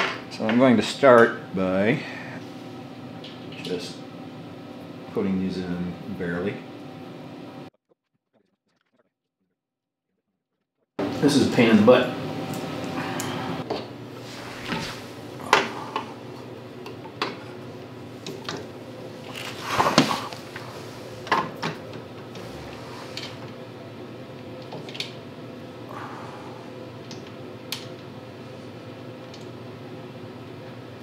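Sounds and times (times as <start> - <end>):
steady background hum: 0.0 - 7.7, 11.0 - 31.0.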